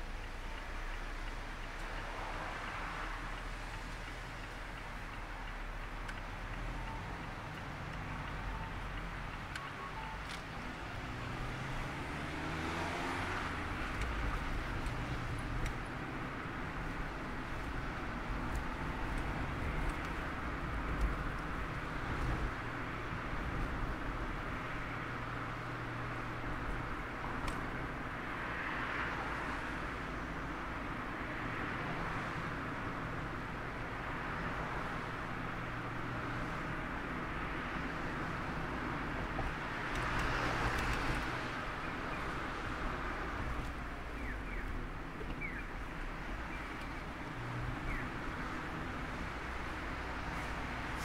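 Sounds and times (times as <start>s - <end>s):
car engine hum: 0.0s - 51.0s
wind and road noise: 0.0s - 51.0s.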